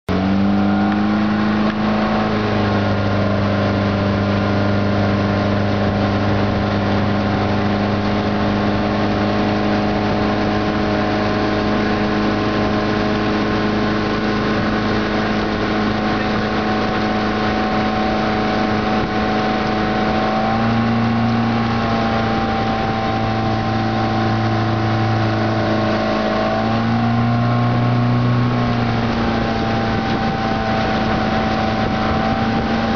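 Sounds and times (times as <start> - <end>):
motorboat engine running: 0.1 - 32.9
rush of churning wake: 0.1 - 32.9.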